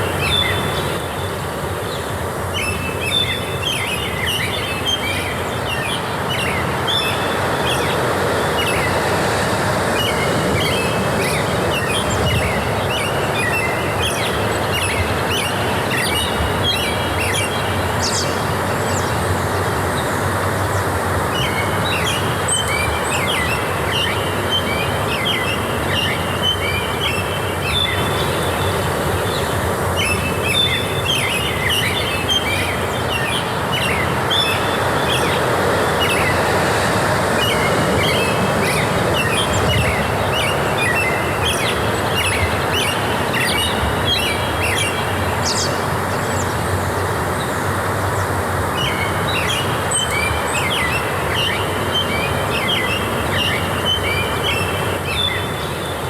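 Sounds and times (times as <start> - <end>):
birds calling and twittering: 0.0 - 56.0
steady rushing background noise: 0.0 - 56.0.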